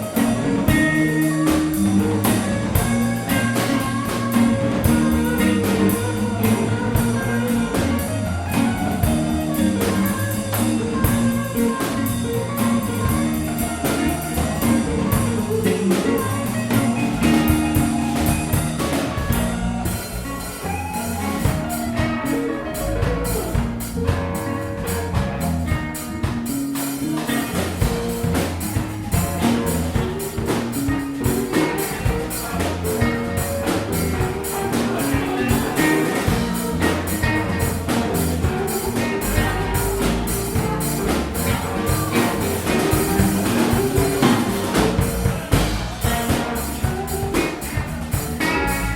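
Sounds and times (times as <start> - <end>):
drum kit beat: 0.0 - 48.9
live band playing: 0.0 - 48.9.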